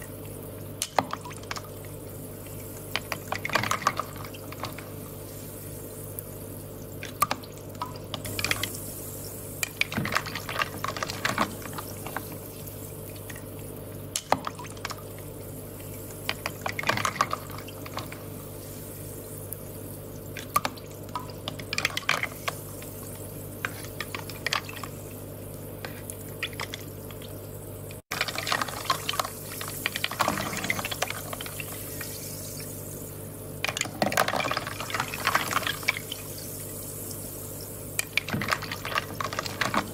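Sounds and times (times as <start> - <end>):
water trickling and dripping: 0.0 - 33.0.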